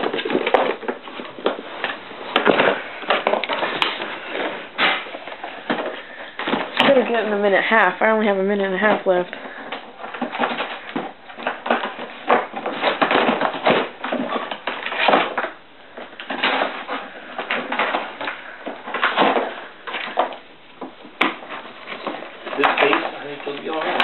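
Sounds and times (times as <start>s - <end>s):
dog tearing cardboard: 0.0s - 7.4s, 9.5s - 24.0s.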